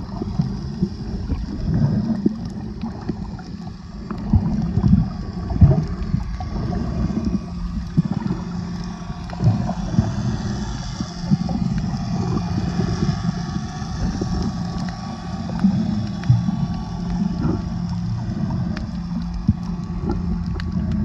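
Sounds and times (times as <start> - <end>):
steady low hum: 0.0 - 21.0
water rushing underwater: 0.0 - 21.0.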